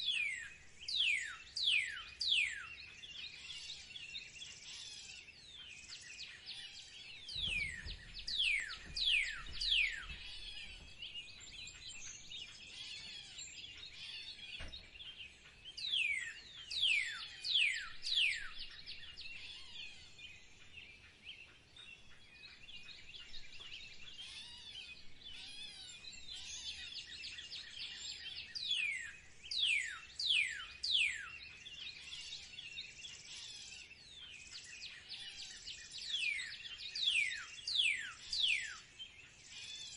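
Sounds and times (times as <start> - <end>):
falling whistled bird song: 0.0 - 20.5, 22.4 - 39.9
small birds chirping: 0.0 - 39.9.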